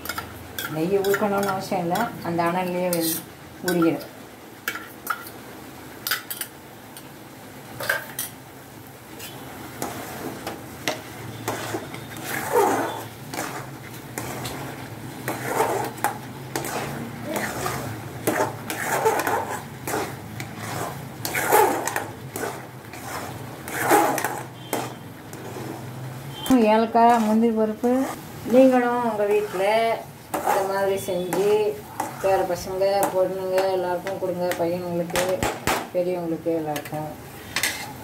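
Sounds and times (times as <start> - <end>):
spoon scraping a metal pan: 0.0 - 4.1, 9.1 - 35.4, 36.7 - 38.0.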